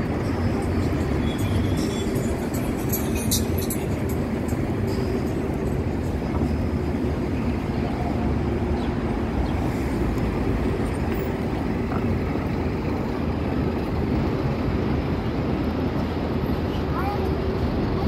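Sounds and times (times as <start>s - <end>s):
vehicle engines idling and passing: 0.0s - 18.0s.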